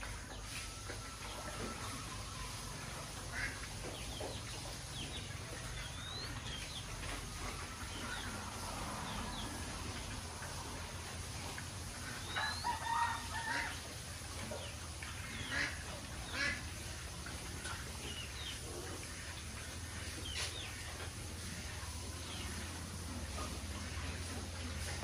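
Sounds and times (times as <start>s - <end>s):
pigs feeding at trough: 0.0s - 25.0s.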